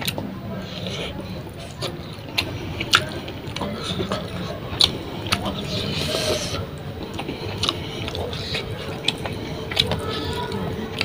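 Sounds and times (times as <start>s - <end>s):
chewing and lip smacking: 0.0s - 11.0s
faint steady hum: 0.0s - 11.0s
wet mouth clicks: 0.0s - 11.0s.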